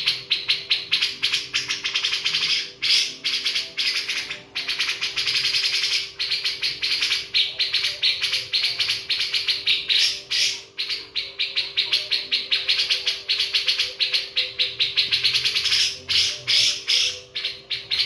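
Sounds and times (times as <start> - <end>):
birds chirping in high trills: 0.0 - 18.0.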